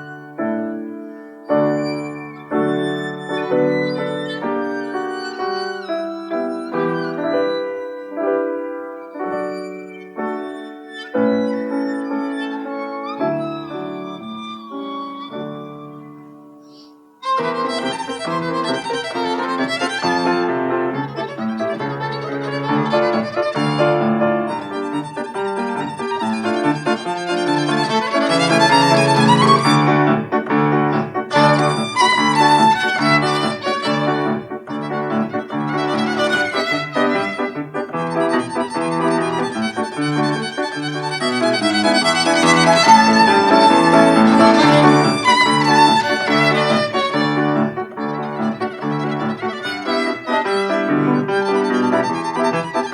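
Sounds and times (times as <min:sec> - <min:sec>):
piano accompaniment: 0:00.0 - 0:52.9
violin playing: 0:00.0 - 0:52.9.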